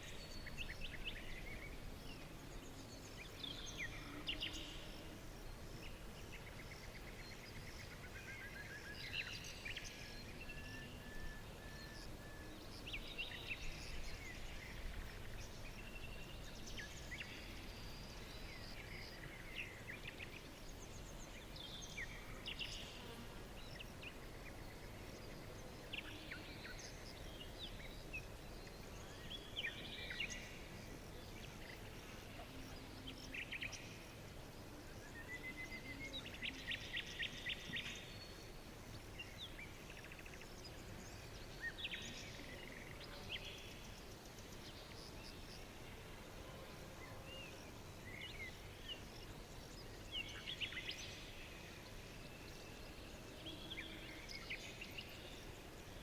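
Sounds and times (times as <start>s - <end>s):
low background hiss: 0.0s - 56.0s
songbirds chirping and trilling: 0.0s - 56.0s.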